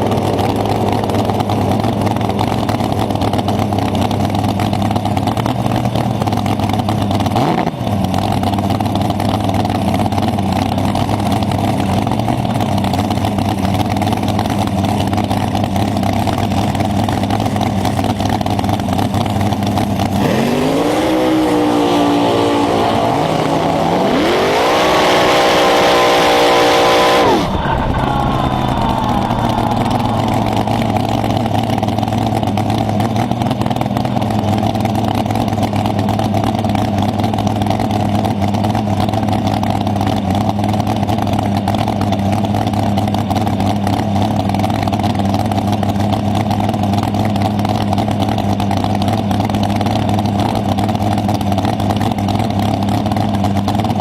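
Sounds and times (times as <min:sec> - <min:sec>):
dragster engine revving and idling: 0:00.0 - 0:54.0.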